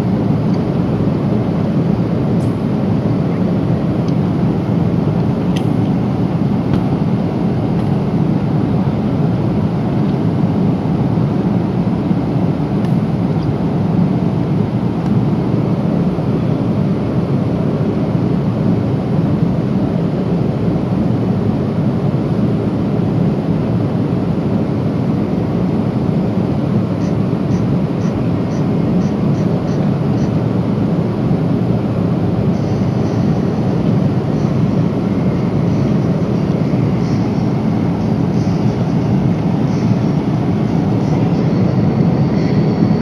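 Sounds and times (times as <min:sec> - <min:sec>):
airplane cabin roar: 0:00.0 - 0:43.0.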